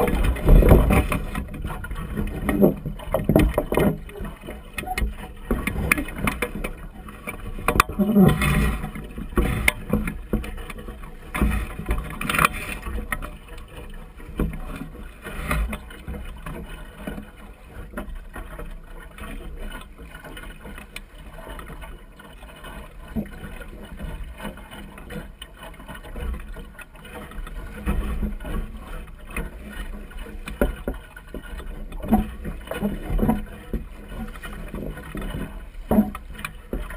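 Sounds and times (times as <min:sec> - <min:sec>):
water splashing against hull: 0:00.0 - 0:36.9.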